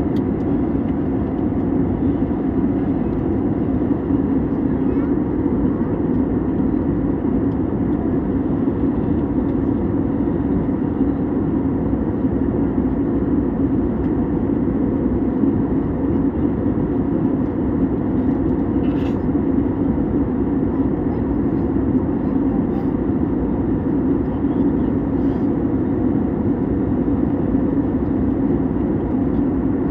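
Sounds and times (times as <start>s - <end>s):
aeroplane drone: 0.0s - 29.9s.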